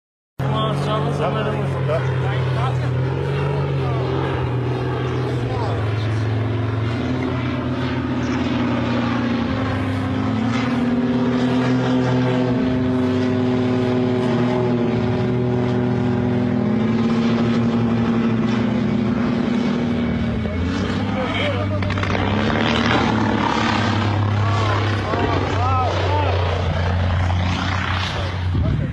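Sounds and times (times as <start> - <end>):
propeller aircraft engines droning: 0.4 - 28.9.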